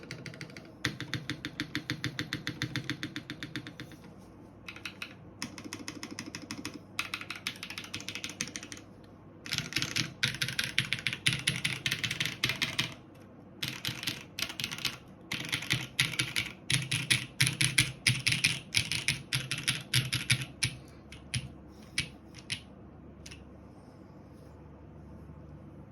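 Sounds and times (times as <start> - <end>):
typing on mechanical keyboard: 0.0 - 23.4.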